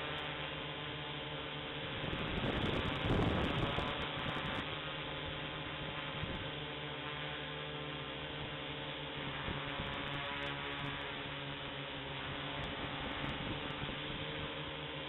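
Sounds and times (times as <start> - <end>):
quadcopter propellers whirring: 0.0 - 15.0.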